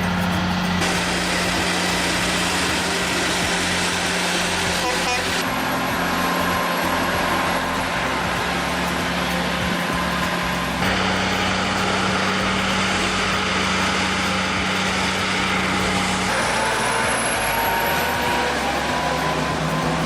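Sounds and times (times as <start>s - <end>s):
heavy truck engines running: 0.0s - 20.0s.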